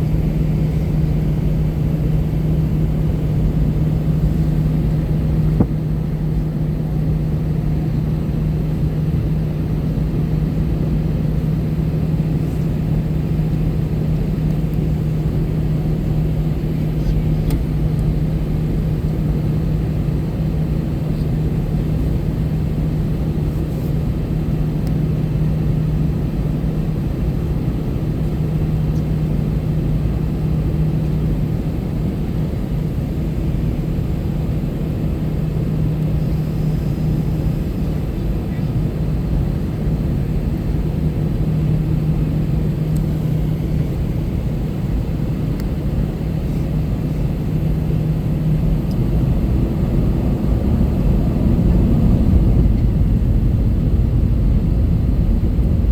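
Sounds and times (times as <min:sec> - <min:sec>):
airliner cabin hum: 0:00.0 - 0:55.9
engine and airflow rumble: 0:00.0 - 0:55.9.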